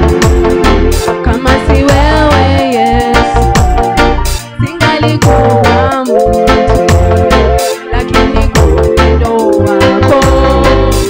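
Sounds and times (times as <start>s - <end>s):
band with bass and drums: 0.0s - 11.0s
sung melody: 0.0s - 11.0s.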